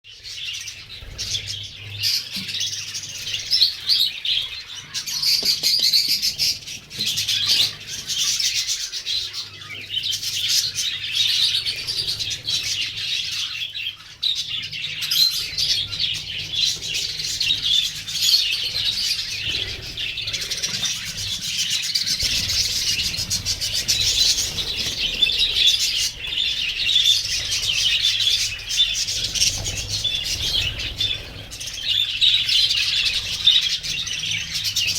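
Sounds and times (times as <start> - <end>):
flock of budgerigars chattering: 0.1 - 34.9.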